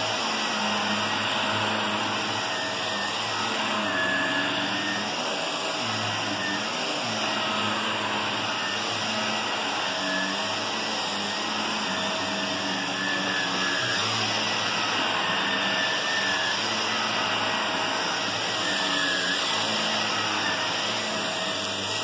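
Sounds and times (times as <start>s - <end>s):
vacuum cleaner running on carpet: 0.0s - 22.0s.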